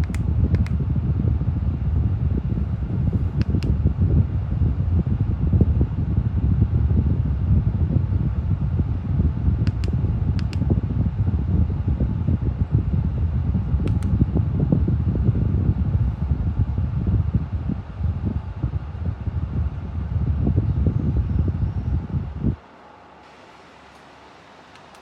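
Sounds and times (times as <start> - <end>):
fan airflow rushing: 0.0 - 25.0.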